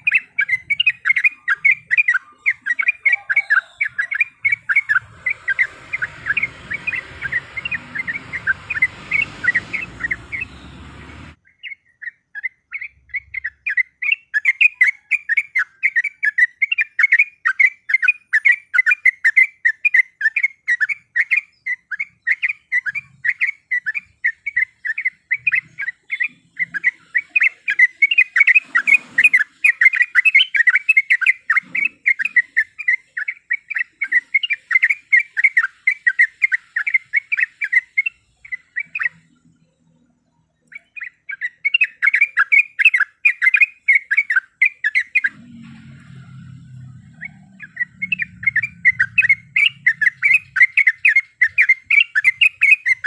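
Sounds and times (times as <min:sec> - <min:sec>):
bird chirping rapidly: 0:00.0 - 0:53.0.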